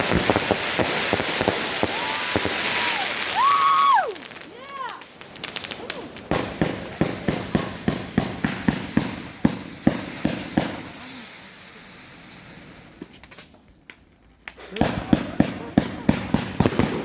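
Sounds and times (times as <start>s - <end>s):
firework hiss: 0.0s - 13.8s, 14.4s - 17.0s
firework bangs: 0.0s - 17.0s.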